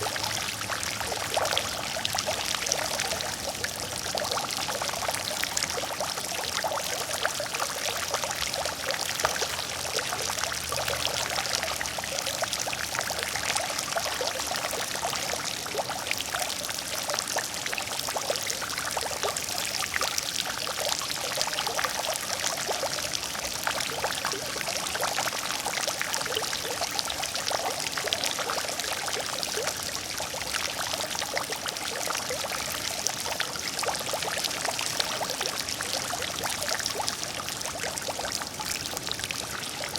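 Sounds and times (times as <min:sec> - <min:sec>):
water fountain splashing: 0:00.0 - 0:39.9.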